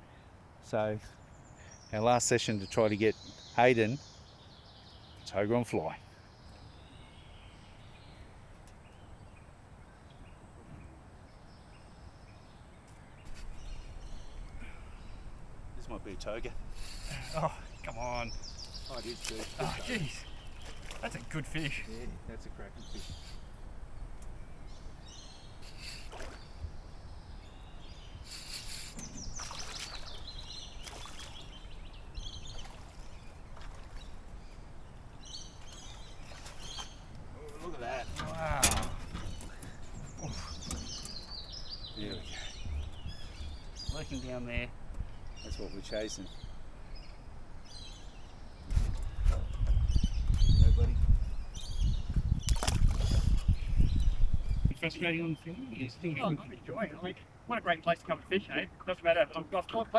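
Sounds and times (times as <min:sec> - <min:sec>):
steady background hiss: 0:00.0 - 0:48.6, 0:54.7 - 0:59.9
faint bird chirps: 0:00.0 - 0:59.9.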